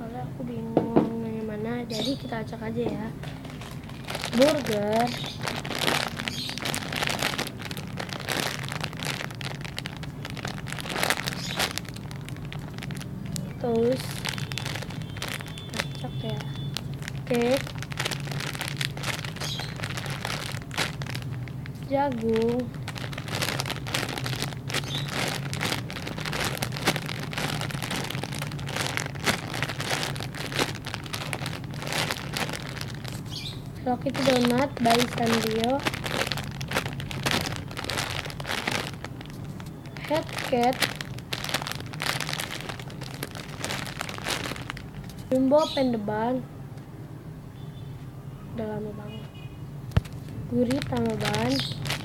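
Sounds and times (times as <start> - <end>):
plastic packaging crinkling: 1.0 - 46.0, 49.9 - 52.0.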